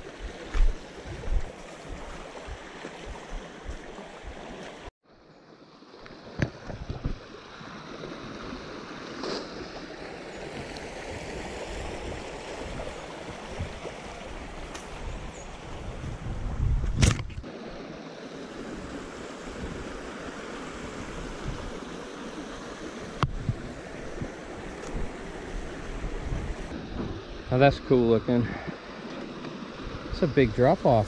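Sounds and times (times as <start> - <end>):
creek water running: 0.0 - 16.7, 17.4 - 31.0.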